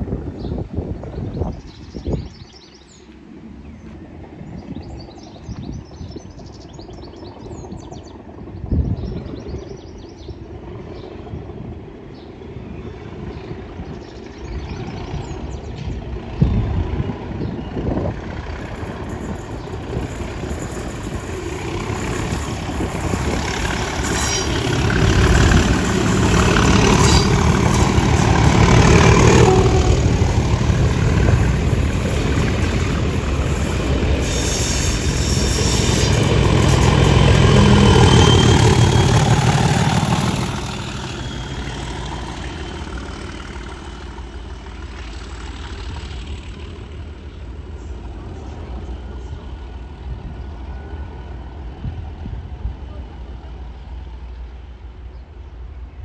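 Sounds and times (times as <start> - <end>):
diesel locomotive engine passing: 0.0 - 56.0
birds chirping: 0.4 - 51.8
train wheels rumbling on rails: 8.9 - 56.0.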